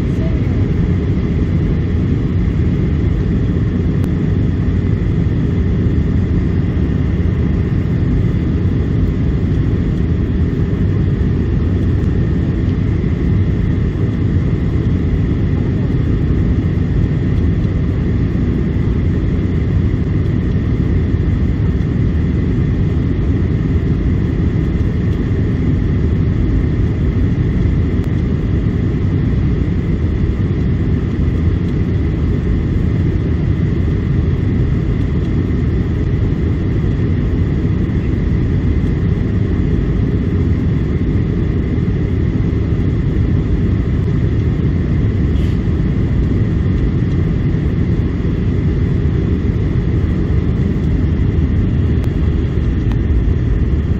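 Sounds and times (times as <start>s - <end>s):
airplane cabin engine rumble: 0.0s - 53.9s
faint steady whine: 0.0s - 53.9s.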